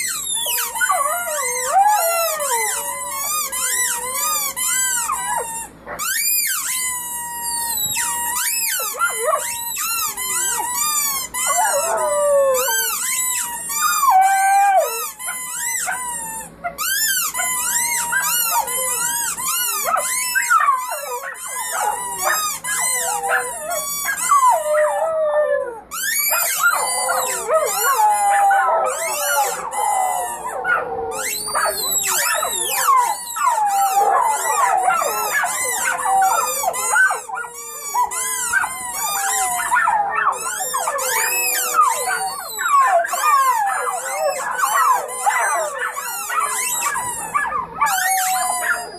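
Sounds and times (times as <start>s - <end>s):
puppy yip: 0.0s - 6.9s, 14.8s - 24.6s, 25.9s - 48.9s
puppies howling: 0.0s - 48.9s.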